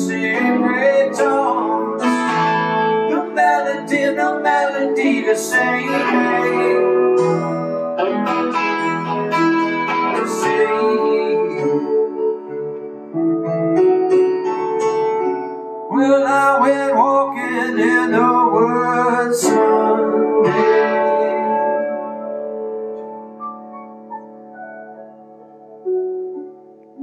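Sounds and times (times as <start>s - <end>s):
acoustic guitar song: 0.0s - 27.0s.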